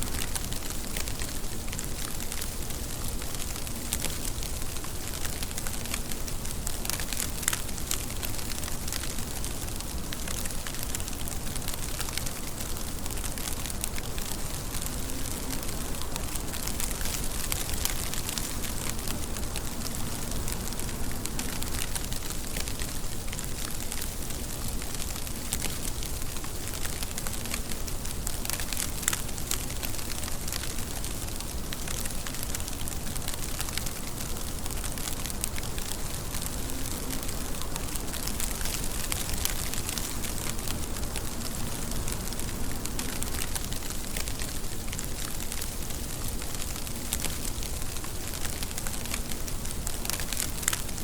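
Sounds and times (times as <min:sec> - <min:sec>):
raindrops pattering: 0:00.0 - 0:51.0
steady rain falling: 0:00.0 - 0:51.0.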